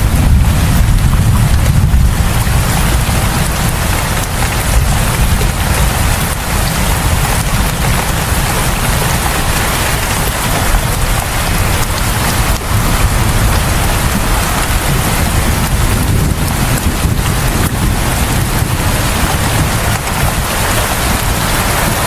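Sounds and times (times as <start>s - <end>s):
deep rumble: 0.0s - 22.0s
heavy rain pattering: 0.0s - 22.0s.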